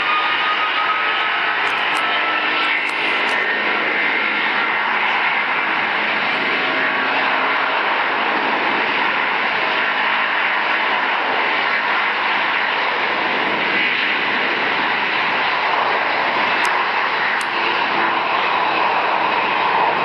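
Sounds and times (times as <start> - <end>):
jet engines at takeoff thrust: 0.0 - 20.0.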